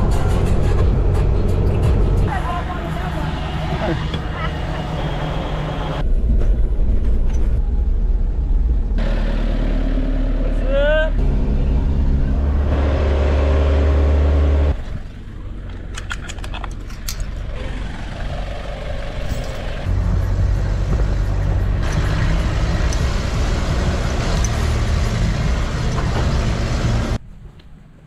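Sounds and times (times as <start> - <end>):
vehicle engine running: 0.0 - 27.2.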